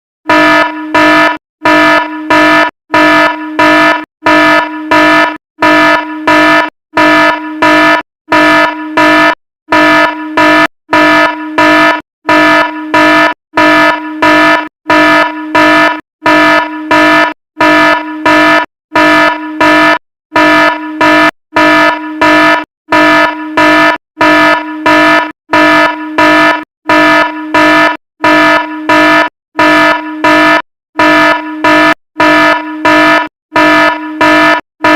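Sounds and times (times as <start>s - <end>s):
fire alarm horn blasts: 0.2s - 34.9s.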